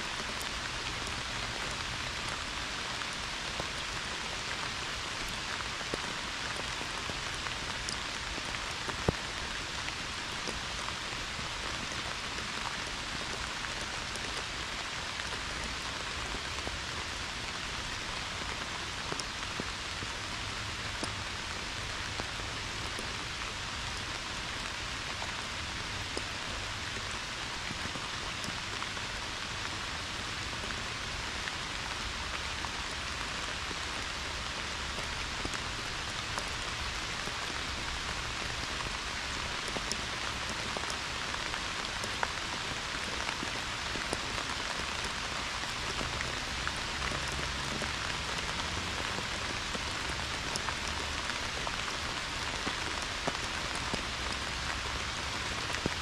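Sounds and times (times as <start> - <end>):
pouring rain: 0.0 - 56.0.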